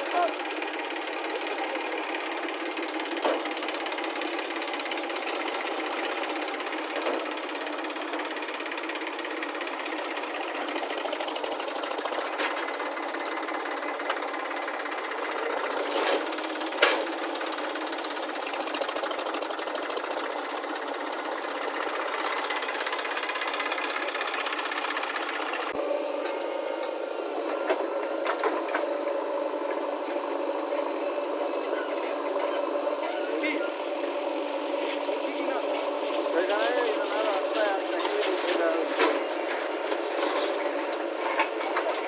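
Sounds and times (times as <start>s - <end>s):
diesel engine clattering: 0.0s - 42.0s.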